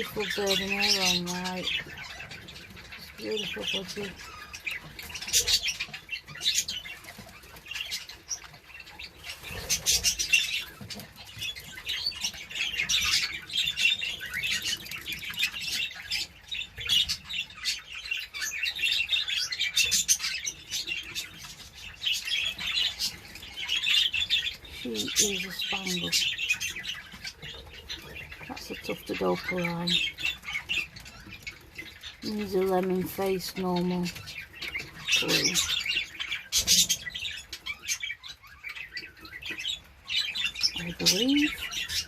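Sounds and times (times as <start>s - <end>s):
budgerigars chattering and chirping: 0.0s - 42.0s.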